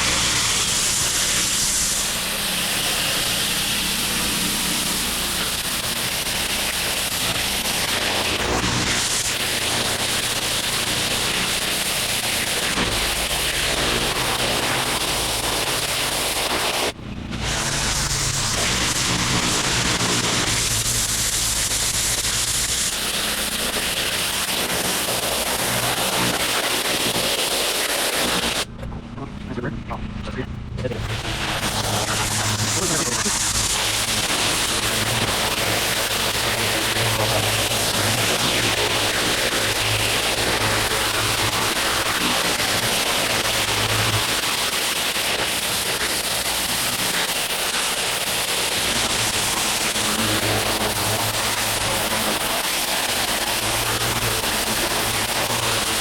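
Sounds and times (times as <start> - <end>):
pressure washer spray hissing: 0.0 - 28.7, 31.0 - 56.0
pressure washer machine humming: 0.0 - 29.0, 29.6 - 56.0.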